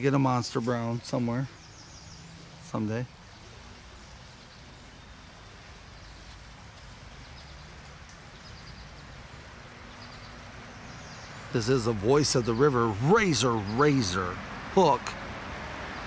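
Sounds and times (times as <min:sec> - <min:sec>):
creek rushing: 0:00.0 - 0:16.0.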